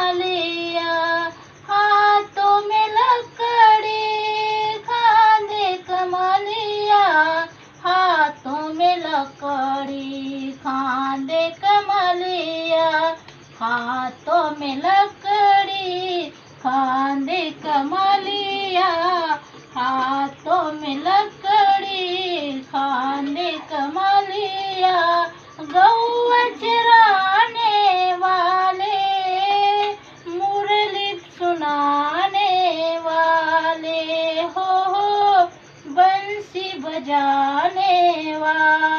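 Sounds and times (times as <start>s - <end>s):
woman singing devotional song: 0.0s - 38.9s.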